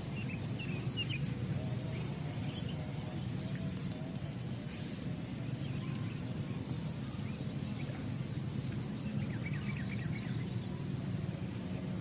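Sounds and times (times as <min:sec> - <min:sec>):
faint bird chirps: 0:00.0 - 0:12.0
low outdoor rumble: 0:00.0 - 0:12.0.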